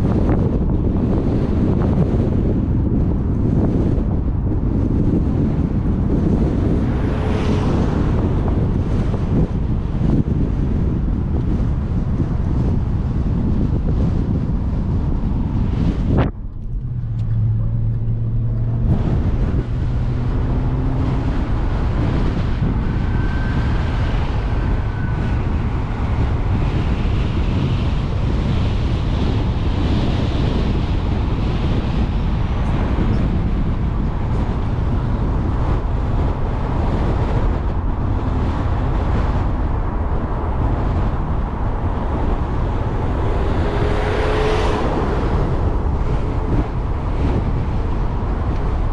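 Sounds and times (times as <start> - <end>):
car engine and road noise: 0.0 - 48.9
wind rushing over microphone: 0.0 - 48.9.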